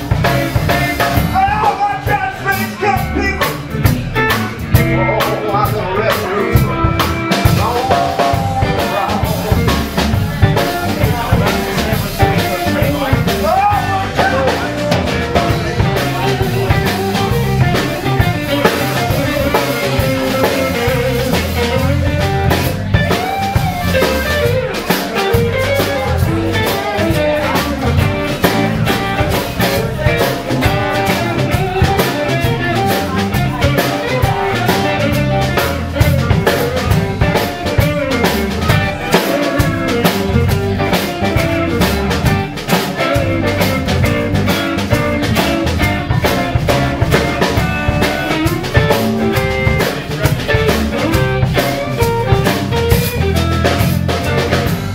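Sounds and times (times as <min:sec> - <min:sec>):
blues band playing: 0:00.0 - 0:54.9.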